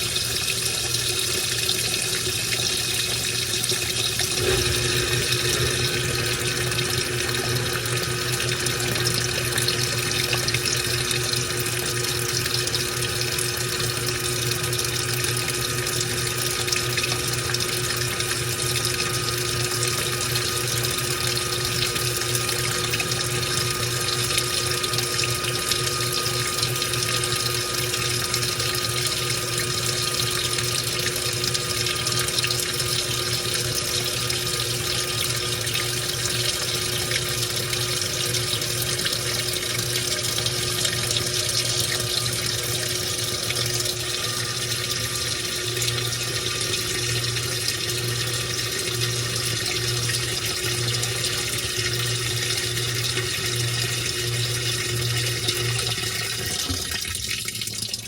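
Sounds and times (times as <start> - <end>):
low machine hum: 0.0 - 58.0
water rushing in washing machine: 0.0 - 58.0.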